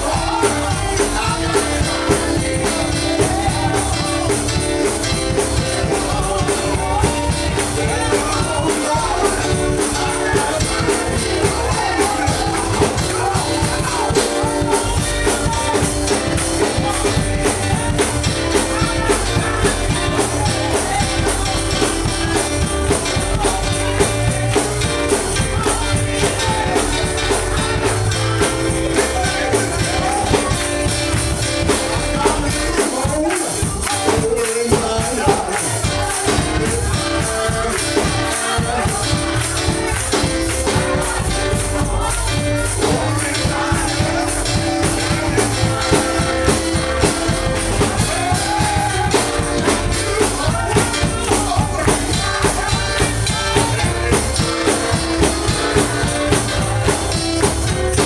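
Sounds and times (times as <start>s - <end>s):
drums beating: 0.0s - 58.0s
live gospel band: 0.0s - 58.0s
singing: 0.0s - 58.0s.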